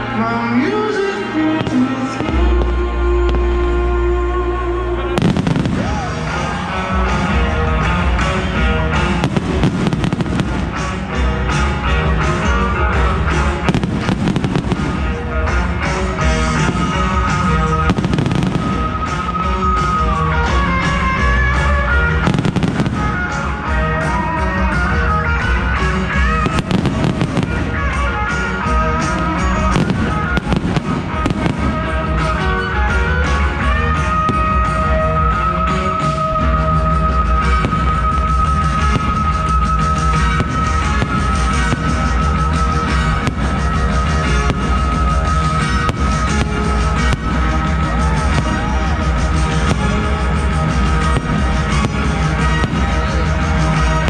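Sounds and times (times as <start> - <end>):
loud show music: 0.0 - 54.0
fireworks bursting and crackling: 1.2 - 4.1, 5.1 - 54.0.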